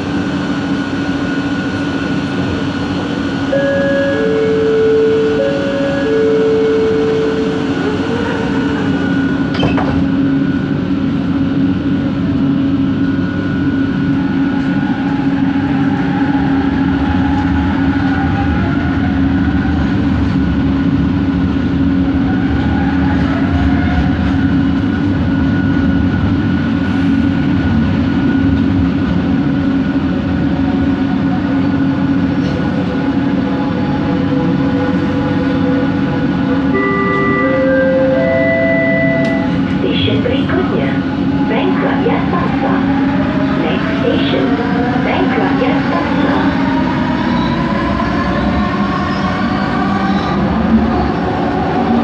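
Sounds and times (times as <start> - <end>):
train motor droning hum: 0.0 - 52.0.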